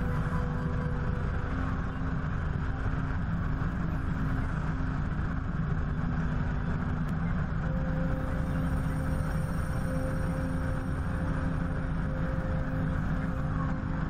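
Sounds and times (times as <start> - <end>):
helicopter rotor and engine drone: 0.0 - 14.0
steady hum: 0.0 - 14.0
wind rush on camera: 0.0 - 14.0.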